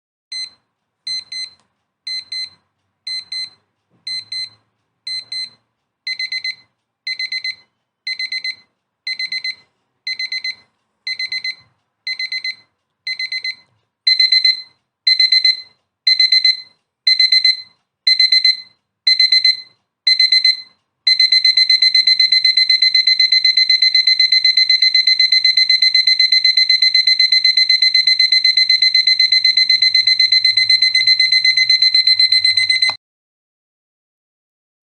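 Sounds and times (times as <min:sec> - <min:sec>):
alarm clock beeping: 0:00.3 - 0:33.0.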